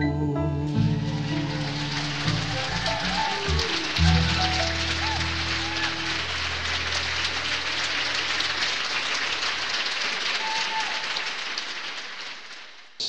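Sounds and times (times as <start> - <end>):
audience applauding: 0.8 - 13.0.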